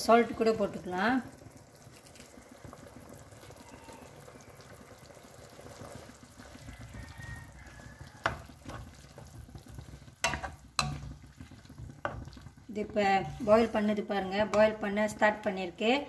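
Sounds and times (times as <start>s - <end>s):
syrup bubbling in a pan: 0.0s - 16.0s.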